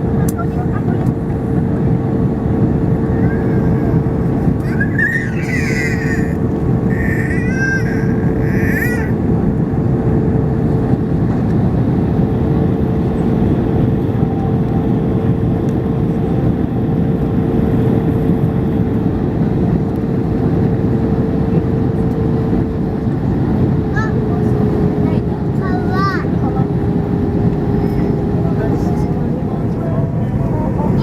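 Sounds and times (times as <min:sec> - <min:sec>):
airliner cabin engine and airflow rush: 0:00.0 - 0:31.0.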